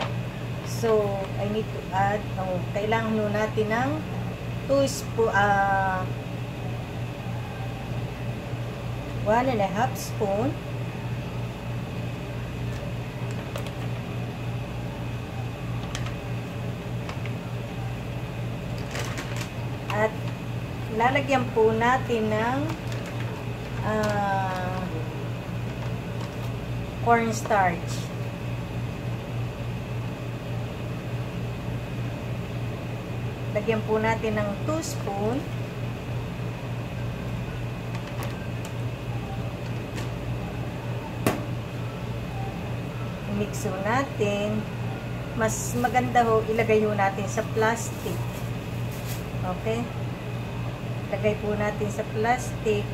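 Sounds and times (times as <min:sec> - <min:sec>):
kitchen machinery humming: 0:00.0 - 0:52.9.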